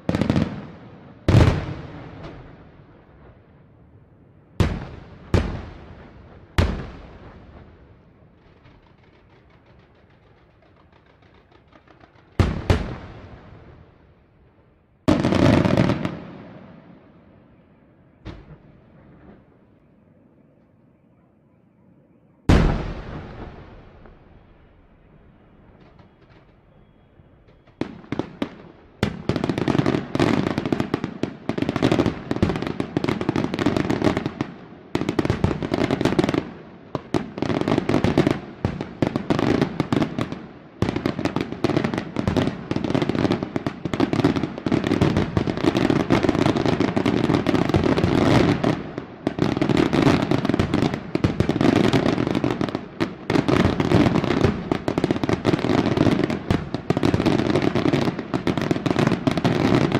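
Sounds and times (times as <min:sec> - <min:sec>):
fireworks bursting and crackling: 0:00.0 - 0:03.8, 0:04.5 - 0:17.6, 0:18.2 - 0:19.9, 0:22.4 - 0:59.9.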